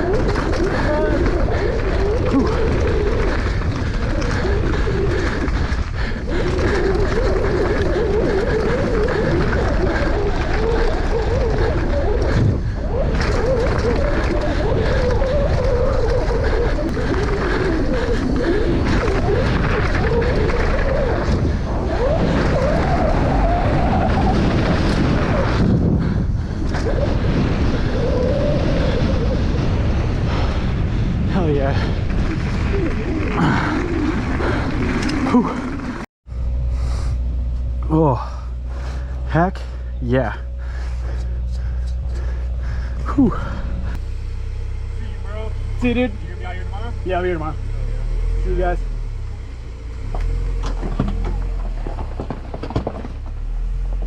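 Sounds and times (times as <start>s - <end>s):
bike tyres humming on dirt: 0.0s - 54.0s
low rumble of trail noise: 0.0s - 54.0s.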